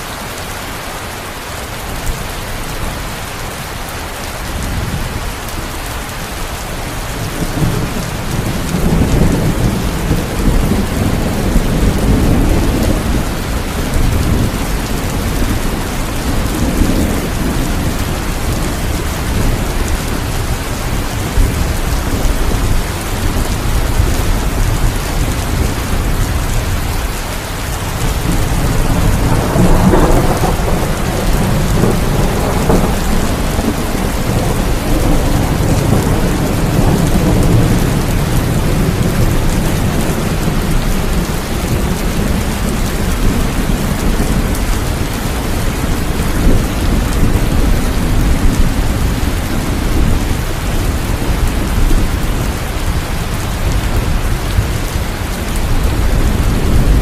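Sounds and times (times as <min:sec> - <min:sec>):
heavy rain hissing: 0:00.0 - 0:57.0
rolling thunder rumbling: 0:04.5 - 0:57.0.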